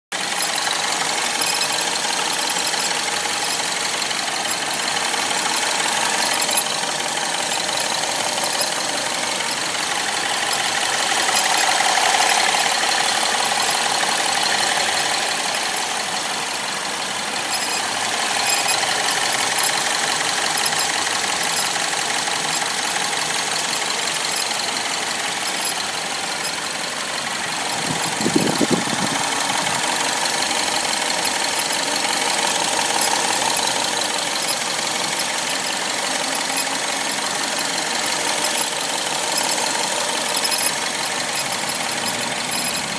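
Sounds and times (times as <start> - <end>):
car engine running: 0.1 - 42.9.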